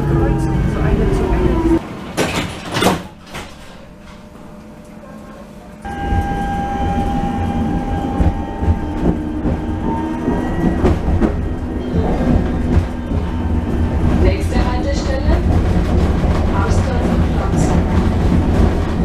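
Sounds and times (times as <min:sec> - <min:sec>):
low rumble on rails: 0:00.0 - 0:19.0
tram electric whine: 0:00.0 - 0:19.0.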